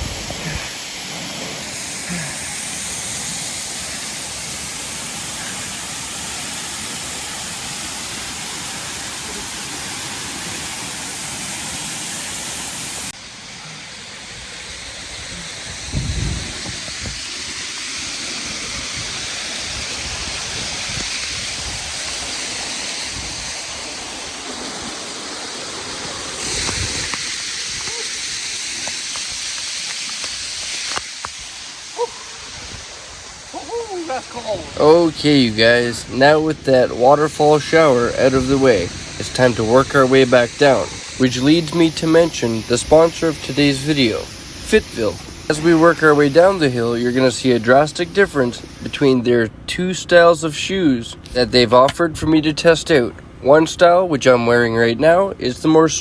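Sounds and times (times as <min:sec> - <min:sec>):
waterfall rushing: 0:00.0 - 0:49.2.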